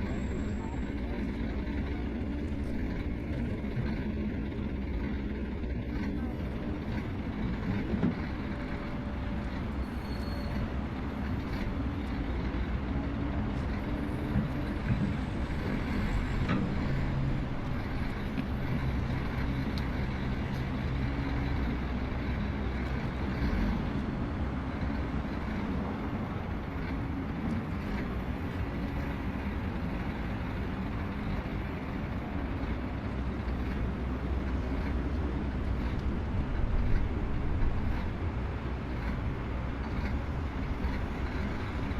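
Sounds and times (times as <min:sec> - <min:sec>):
heavy machine diesel engines running: 0:00.0 - 0:41.9.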